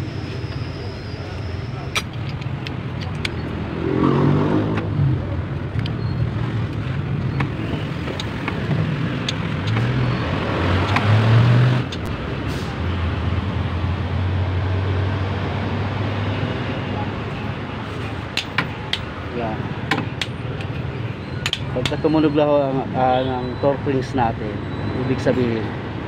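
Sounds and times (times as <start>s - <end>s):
engines humming: 0.0s - 26.0s.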